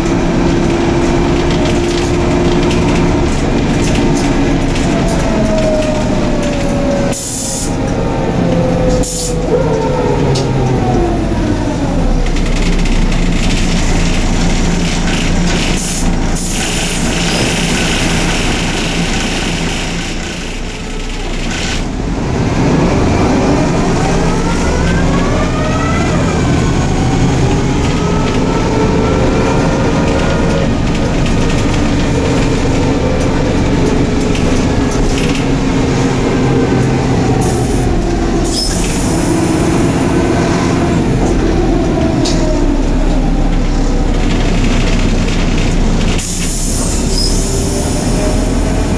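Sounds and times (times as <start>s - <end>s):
bus engine running: 0.0s - 48.9s.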